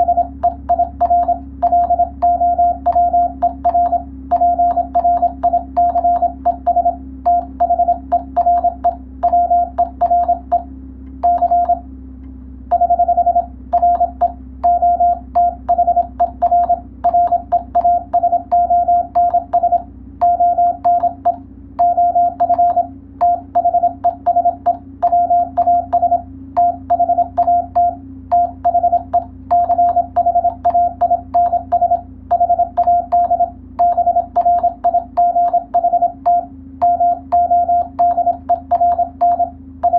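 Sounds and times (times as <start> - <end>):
keying clicks: 0.0 - 11.8, 12.7 - 39.9
morse code tone: 0.0 - 11.8, 12.7 - 39.9
low steady hum: 0.0 - 39.9.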